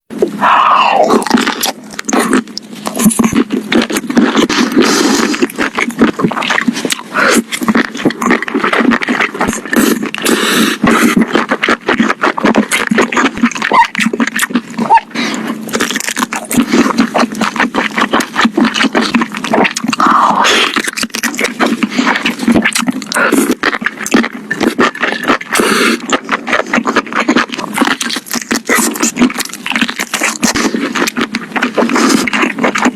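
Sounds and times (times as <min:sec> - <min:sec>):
chewing crunchy food: 0:00.1 - 0:32.9
wet mouth sounds: 0:00.1 - 0:32.9.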